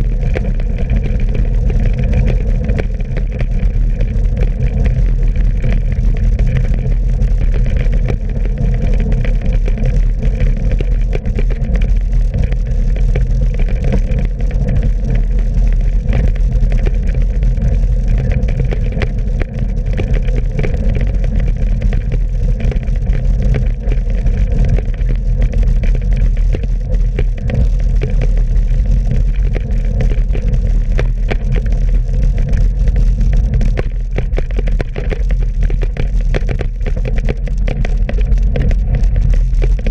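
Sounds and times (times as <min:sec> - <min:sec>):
tyre noise on wet road: 0:00.0 - 0:39.9.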